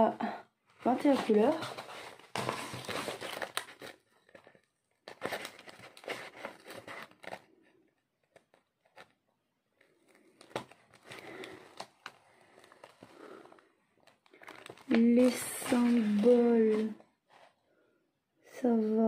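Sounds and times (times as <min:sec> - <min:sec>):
plastic film and paper crinkling: 0:00.8 - 0:17.6.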